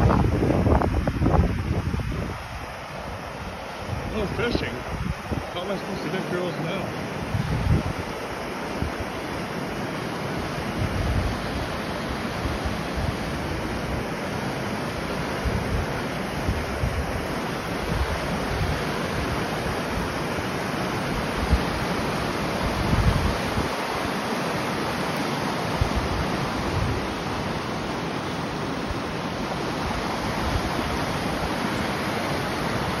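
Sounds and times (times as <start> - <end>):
river rapids roaring: 0.0 - 33.0.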